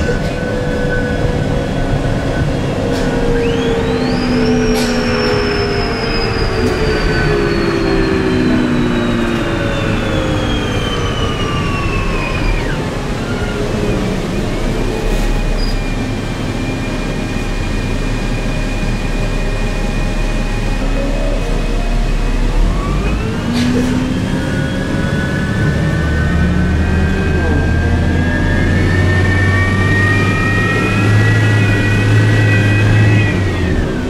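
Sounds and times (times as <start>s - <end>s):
bus engine running: 0.0s - 34.0s
rising whine: 0.0s - 34.0s.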